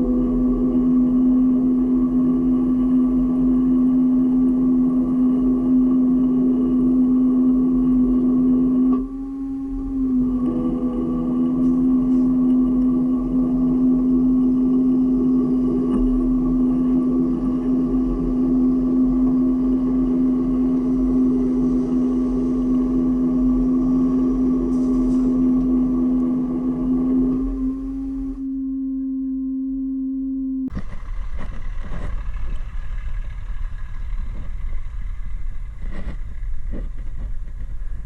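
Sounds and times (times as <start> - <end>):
steady whine: 0.0 - 38.0
vehicle engine running: 0.0 - 38.0.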